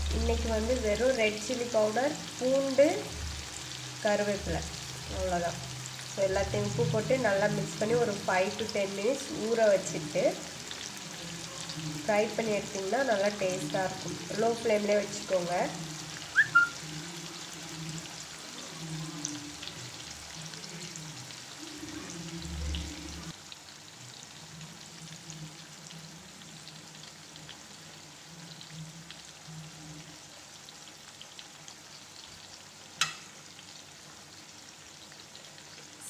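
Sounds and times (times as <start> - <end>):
fish frying in sizzling oil: 0.0 - 36.0.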